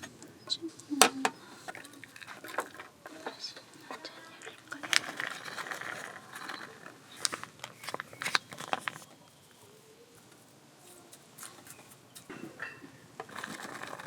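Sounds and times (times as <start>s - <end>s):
small objects clicking and tapping: 0.0s - 9.6s, 10.2s - 14.0s.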